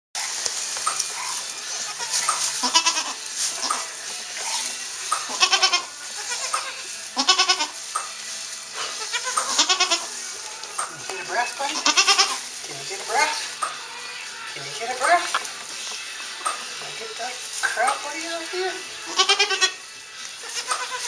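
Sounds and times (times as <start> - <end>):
goats bleating: 0.7 - 21.0.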